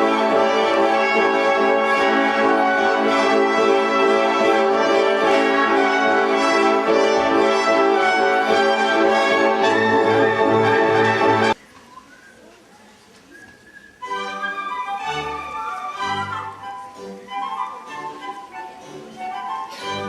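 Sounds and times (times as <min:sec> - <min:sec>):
brass orchestral music: 0:00.0 - 0:11.6, 0:14.0 - 0:20.0.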